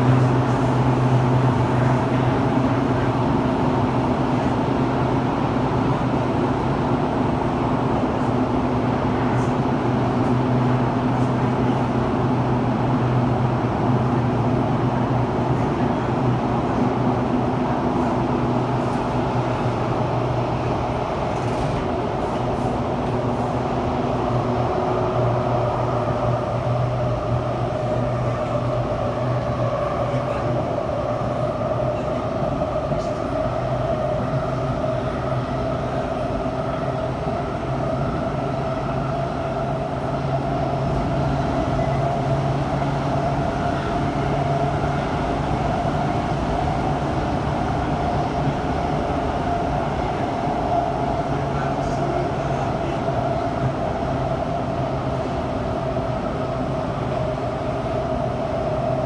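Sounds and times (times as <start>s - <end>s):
metro train rumbling in tunnel: 0.0s - 59.0s.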